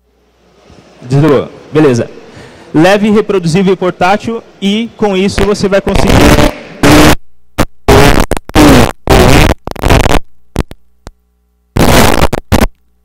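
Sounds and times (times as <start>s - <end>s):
distorted man's voice through microphone: 1.0s - 10.8s, 11.8s - 12.7s.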